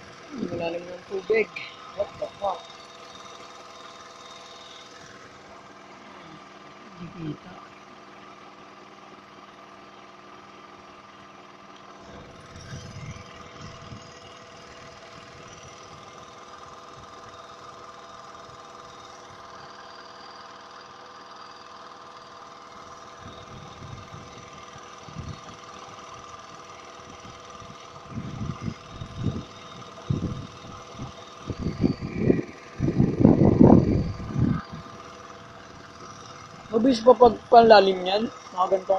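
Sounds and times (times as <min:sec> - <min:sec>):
engine humming: 0:00.0 - 0:17.3, 0:22.1 - 0:38.9.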